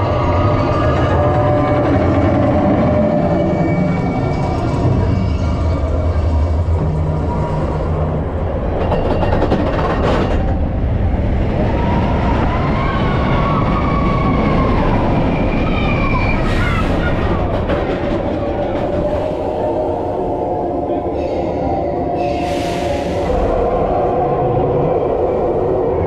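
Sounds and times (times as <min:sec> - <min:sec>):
roller coaster wheels rumbling on rail: 0:00.0 - 0:26.0.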